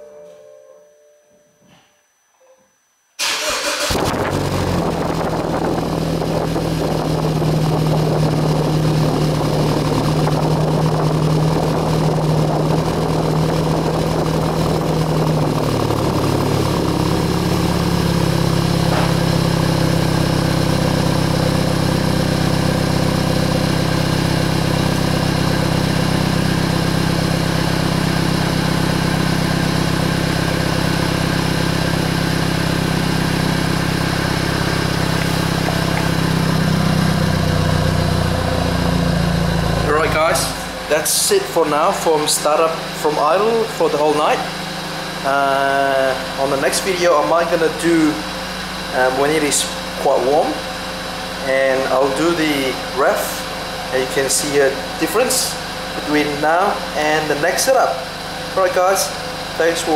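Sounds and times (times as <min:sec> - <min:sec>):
car engine starting and idling: 0:03.2 - 0:59.9.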